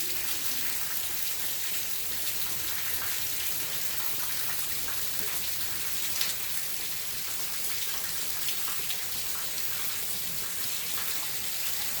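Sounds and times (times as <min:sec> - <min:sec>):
raindrops pattering on surfaces: 0:00.0 - 0:12.0
steady rain falling: 0:00.0 - 0:12.0.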